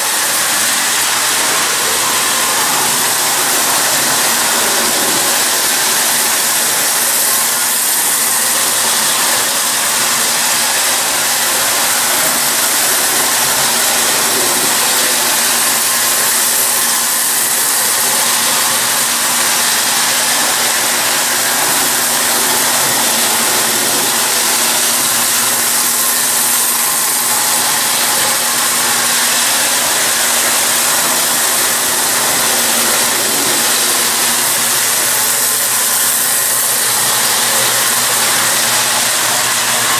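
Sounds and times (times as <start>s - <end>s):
metal wheels rolling on rails: 0.0s - 39.9s
toy train motor whirring: 0.0s - 39.9s.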